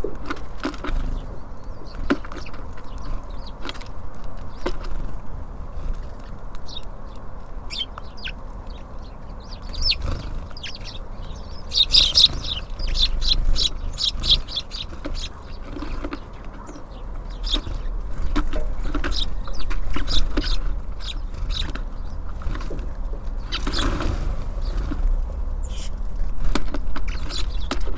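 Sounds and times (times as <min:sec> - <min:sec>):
songbirds chirping: 0:00.0 - 0:27.9
low steady rumble: 0:05.1 - 0:27.9.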